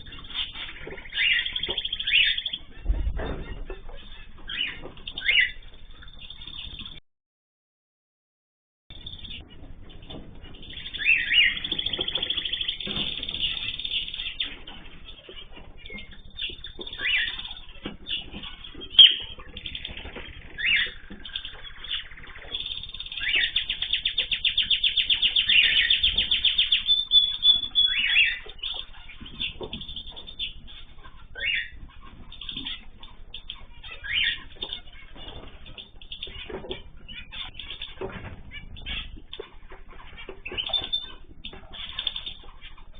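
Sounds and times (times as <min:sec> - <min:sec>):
small birds chirping and trilling: 0:00.0 - 0:07.0, 0:08.9 - 0:42.9.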